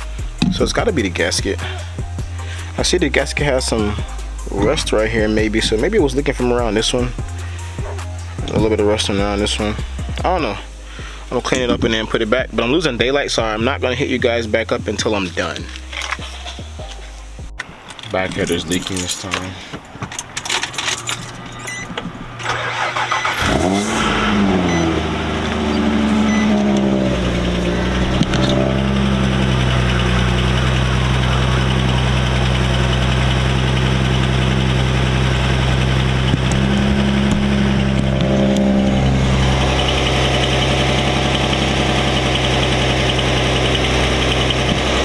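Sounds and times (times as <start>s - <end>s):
car engine starting and idling: 0.0s - 45.0s.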